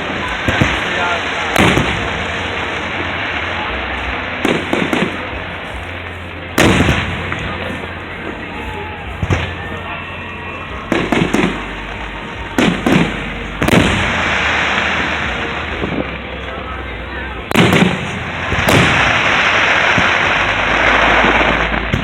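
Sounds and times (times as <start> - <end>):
fireworks booming: 0.0 - 22.0
fireworks crackling and hissing: 0.0 - 22.0.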